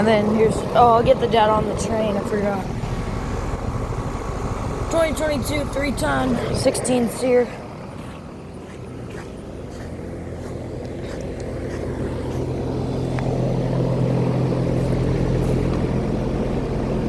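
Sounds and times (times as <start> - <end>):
air conditioner units humming: 0.0 - 17.0.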